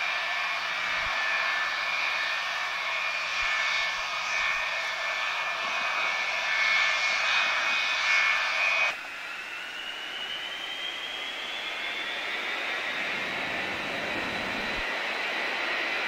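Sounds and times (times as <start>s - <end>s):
jet engines running: 0.0s - 16.0s
faint rising whine: 0.1s - 16.0s.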